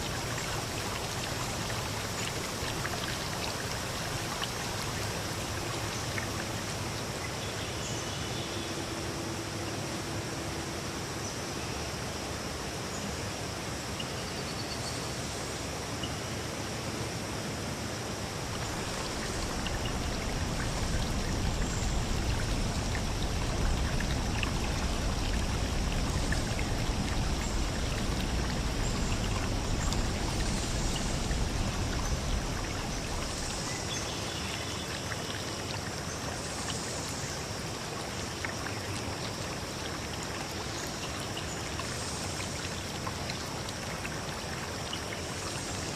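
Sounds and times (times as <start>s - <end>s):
stream water flowing: 0.0s - 45.9s.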